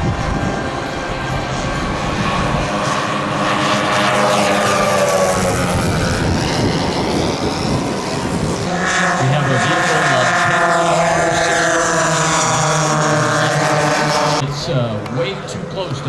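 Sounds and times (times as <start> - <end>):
model airplane flying past: 0.0 - 16.0.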